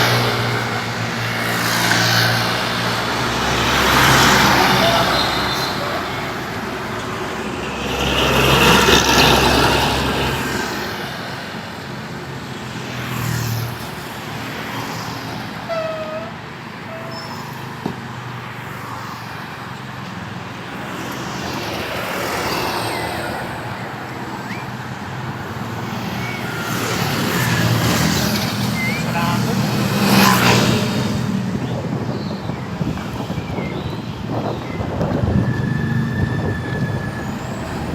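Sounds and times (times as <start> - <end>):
road traffic passing: 0.0 - 37.9.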